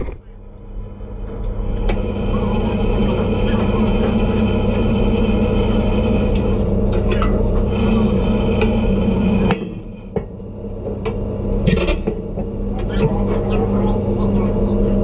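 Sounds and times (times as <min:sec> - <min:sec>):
machinery hum with drone: 0:00.0 - 0:15.0.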